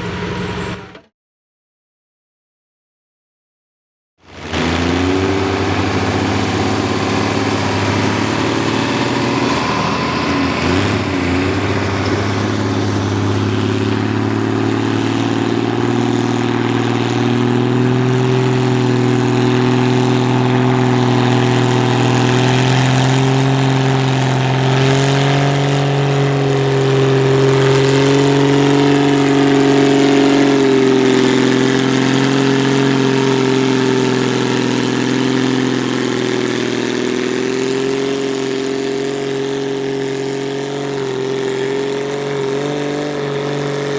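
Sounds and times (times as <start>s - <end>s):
tractor engine under load: 0.0s - 1.0s, 4.3s - 43.9s.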